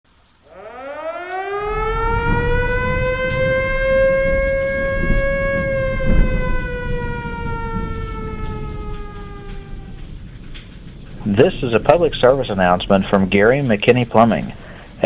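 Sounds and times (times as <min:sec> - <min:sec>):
storm warning siren wailing: 0:00.1 - 0:15.0
low rumbling noise: 0:00.5 - 0:15.0.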